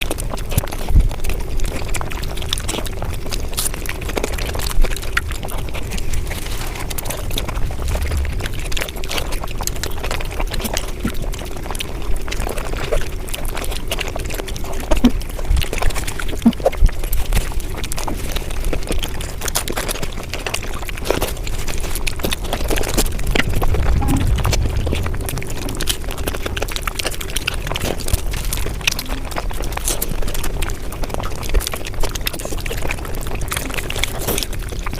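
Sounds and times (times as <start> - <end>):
chewing and smacking mouth noises: 0.0 - 34.9.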